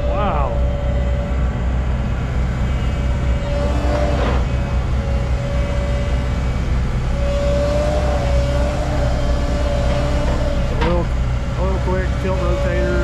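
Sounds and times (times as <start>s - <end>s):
excavator engine drone: 0.0s - 13.0s
hydraulic whine: 0.0s - 13.0s.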